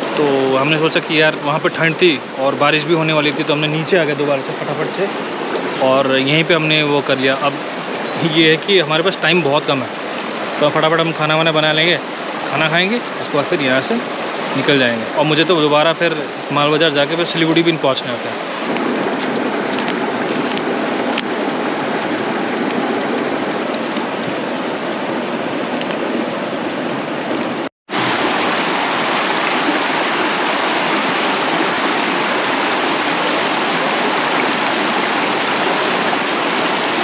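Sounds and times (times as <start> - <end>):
river rushing over stones: 0.0 - 37.0.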